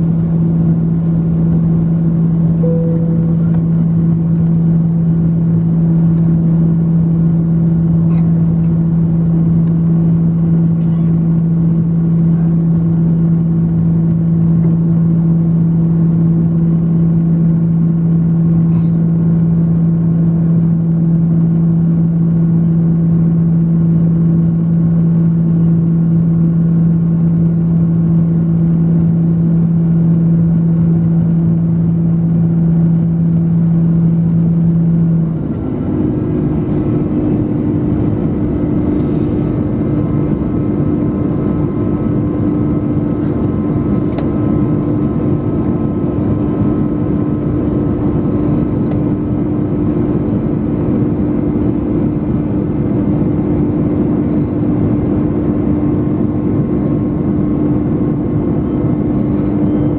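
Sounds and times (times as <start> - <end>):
jet engines droning in cabin: 0.0 - 59.9.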